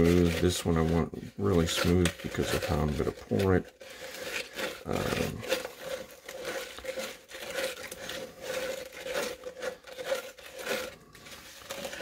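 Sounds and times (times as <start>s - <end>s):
stirrer scraping plastic cup: 0.0s - 12.0s.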